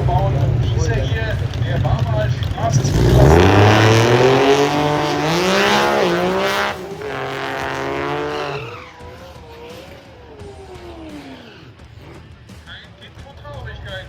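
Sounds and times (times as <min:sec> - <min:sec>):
racing car engine at full throttle: 0:00.0 - 0:12.6.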